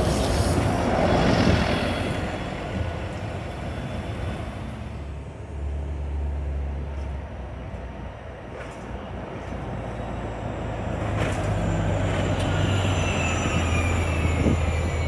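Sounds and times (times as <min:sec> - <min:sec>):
bus driving past: 0:00.0 - 0:15.0.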